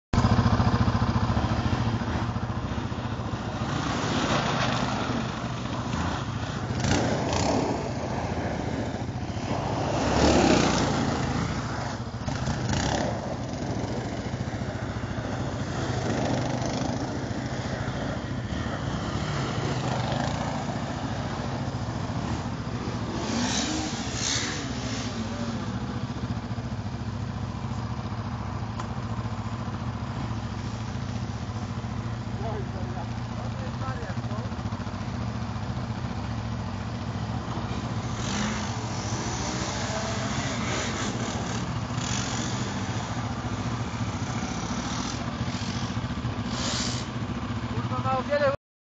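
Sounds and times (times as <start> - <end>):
atv engine revving: 0.2 - 48.6.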